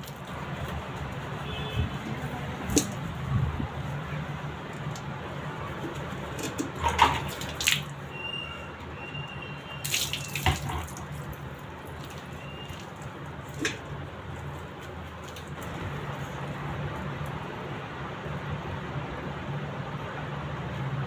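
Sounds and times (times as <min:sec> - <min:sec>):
water splashing: 0:00.0 - 0:17.5.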